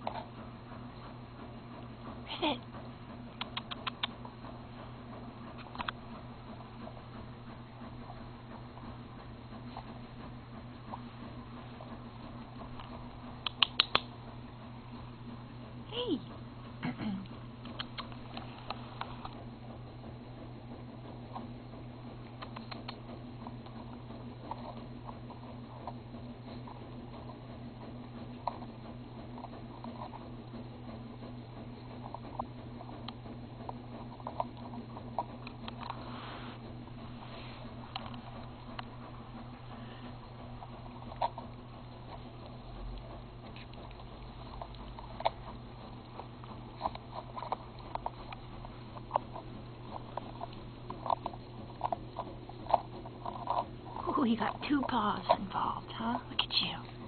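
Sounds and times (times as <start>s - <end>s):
puppy chewing a ball: 0.0s - 57.0s.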